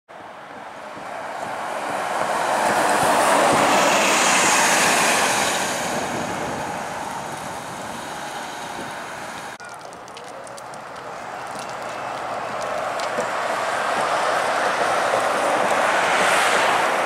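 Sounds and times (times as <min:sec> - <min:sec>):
bus driving past: 0:00.2 - 0:17.0.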